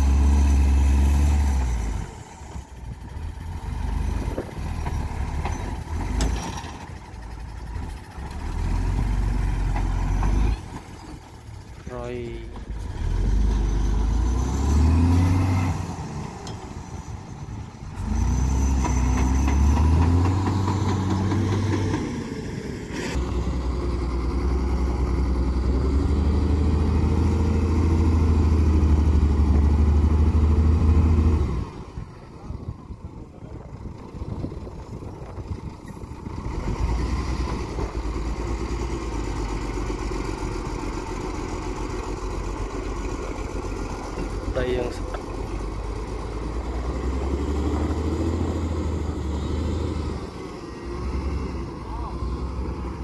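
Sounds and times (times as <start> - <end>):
diesel truck engine revving: 0.0 - 53.0.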